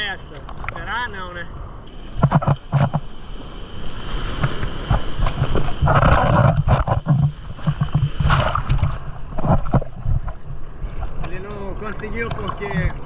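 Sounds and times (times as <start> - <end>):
low rumbling of surf: 0.0 - 13.0
rush of water: 0.0 - 13.0
sea water splashing: 0.0 - 13.0.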